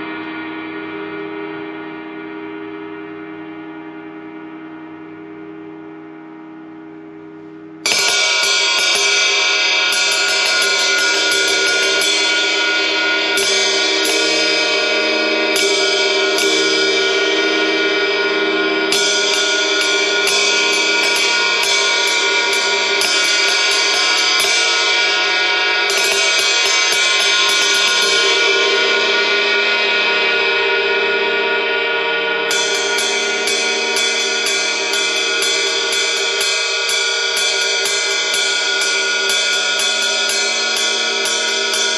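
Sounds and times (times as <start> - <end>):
ride cymbal struck with stick: 7.8 - 41.9.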